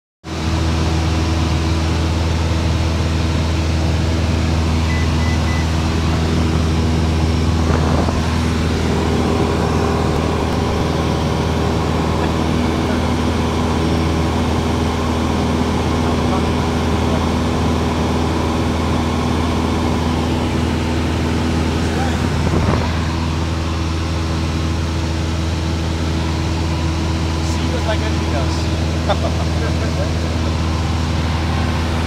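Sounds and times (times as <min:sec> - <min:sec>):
plane engine and propeller droning: 0:00.3 - 0:32.0.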